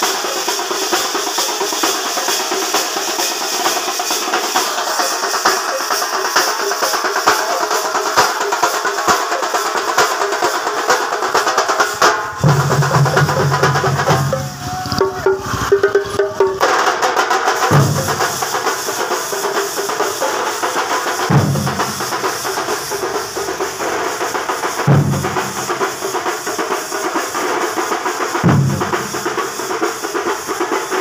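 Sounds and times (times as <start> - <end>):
fast rolling drumming: 0.0 - 31.0
heavy low drum beat: 0.0 - 31.0.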